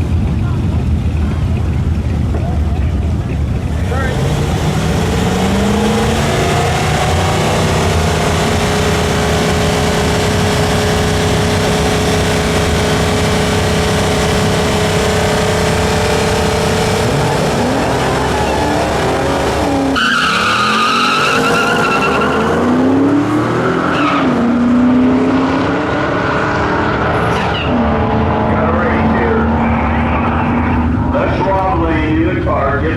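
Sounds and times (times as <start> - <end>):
race car engines at high revs: 0.0 - 32.9.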